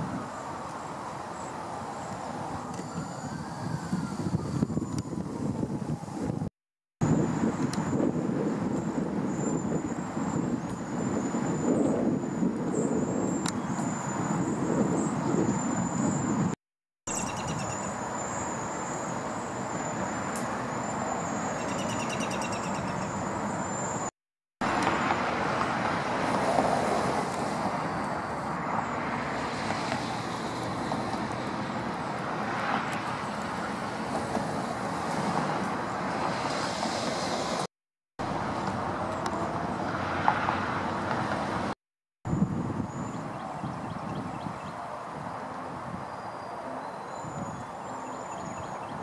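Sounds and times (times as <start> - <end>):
distant road traffic: 0.0 - 49.0.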